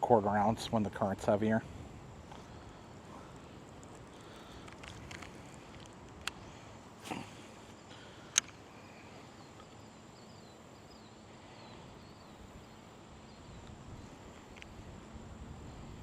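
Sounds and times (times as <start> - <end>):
low river rush: 0.0 - 16.0.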